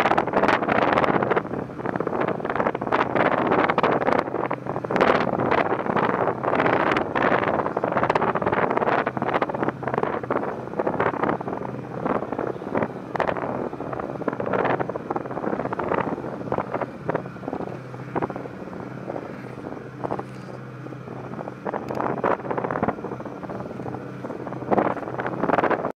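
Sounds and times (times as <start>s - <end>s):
boat engine hum: 0.0s - 25.9s
wind buffeting microphone: 0.0s - 25.9s.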